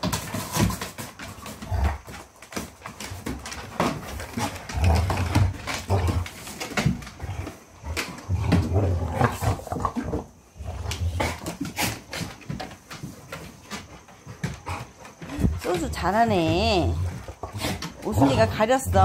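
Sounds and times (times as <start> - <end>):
dogs play-growling: 0.0 - 19.0.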